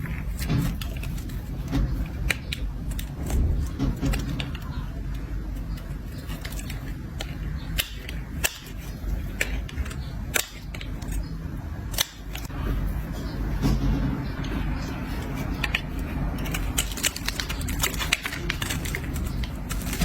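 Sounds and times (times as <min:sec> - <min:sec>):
blade scraping and cutting soap: 0:00.0 - 0:20.0.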